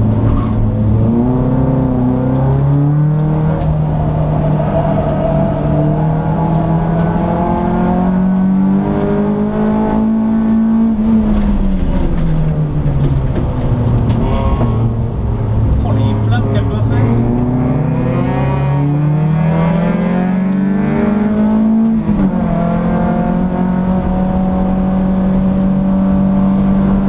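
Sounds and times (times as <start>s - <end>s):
car engine pulling hard: 0.0s - 27.0s.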